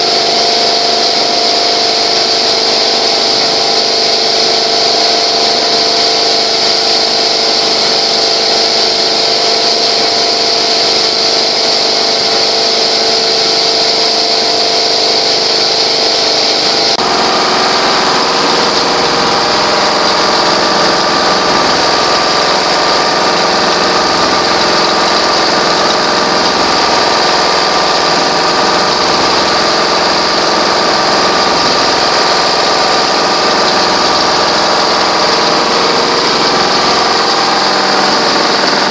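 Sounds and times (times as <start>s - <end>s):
quilting machine humming: 0.0s - 38.9s.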